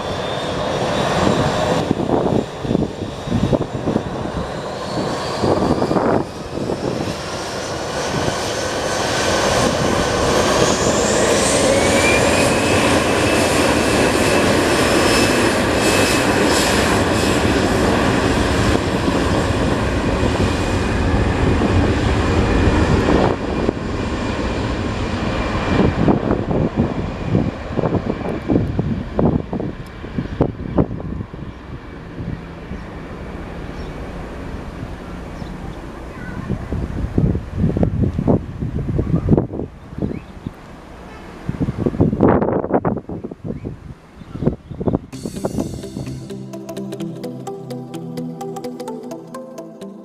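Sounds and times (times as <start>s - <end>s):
jet engines roaring with whine: 0.0s - 45.7s.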